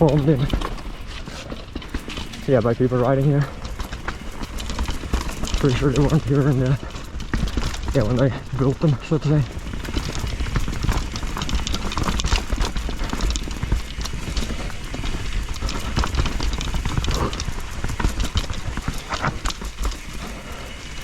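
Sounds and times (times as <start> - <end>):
bike wheels rattling over rocks: 0.0 - 21.0.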